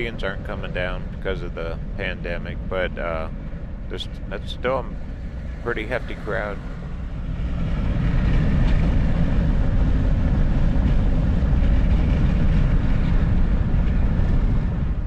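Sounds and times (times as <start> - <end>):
van road and wind noise: 0.0 - 15.0.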